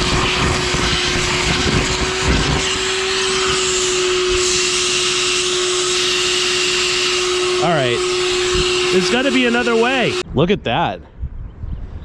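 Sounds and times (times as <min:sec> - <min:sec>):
vacuum cleaner whining: 0:00.0 - 0:10.2.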